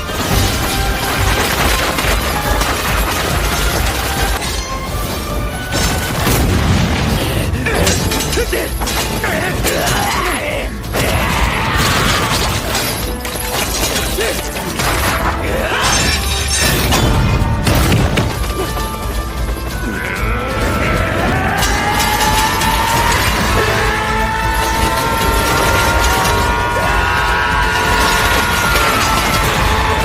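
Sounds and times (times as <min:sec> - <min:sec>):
metallic clashes: 0:00.0 - 0:06.5, 0:07.6 - 0:10.4, 0:11.9 - 0:30.0
dramatic music: 0:00.0 - 0:30.0.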